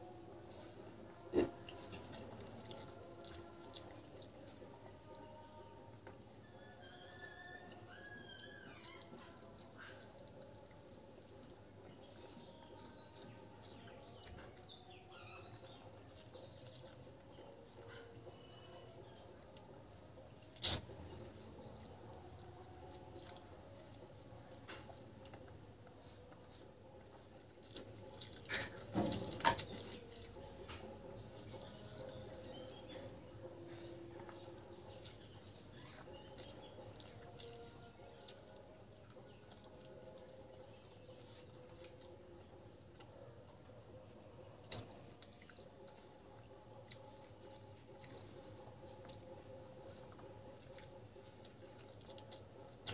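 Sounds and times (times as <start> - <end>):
fingers squishing wet rice: 0.1 - 43.2, 44.1 - 52.9.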